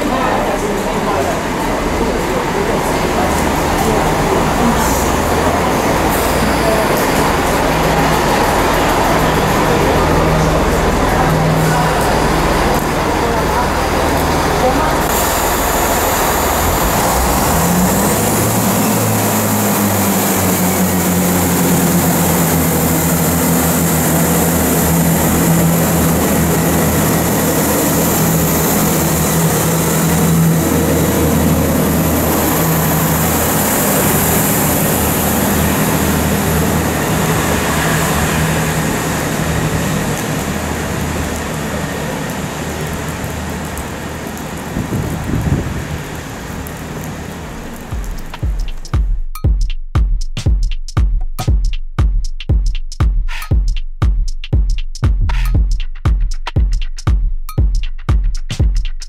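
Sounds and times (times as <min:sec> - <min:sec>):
diesel train engine drone: 0:00.0 - 0:49.4.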